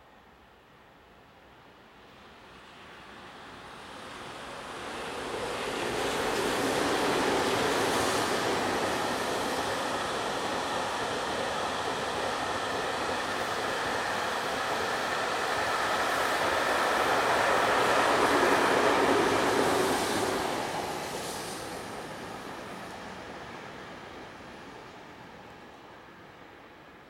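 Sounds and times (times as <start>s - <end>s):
freight train passing: 1.4s - 27.0s.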